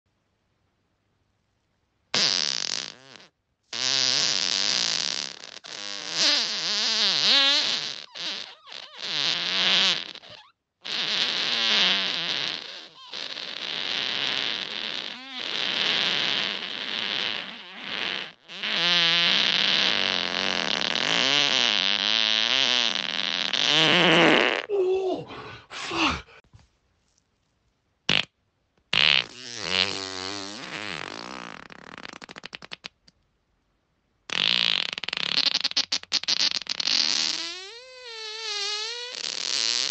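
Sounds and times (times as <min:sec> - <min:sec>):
long rasping farts: 0:02.1 - 0:24.7, 0:28.1 - 0:33.1, 0:34.3 - 0:39.9.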